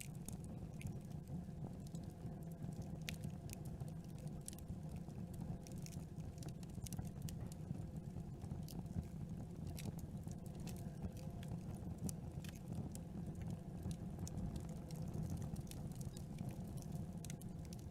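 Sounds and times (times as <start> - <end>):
burning wood crackling and popping: 0.0 - 17.9.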